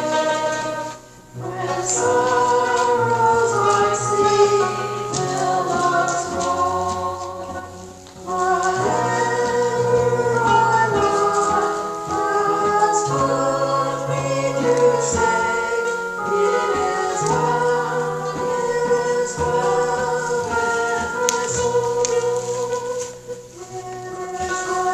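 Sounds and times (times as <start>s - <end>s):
choir singing a hymn: 0.0s - 24.9s.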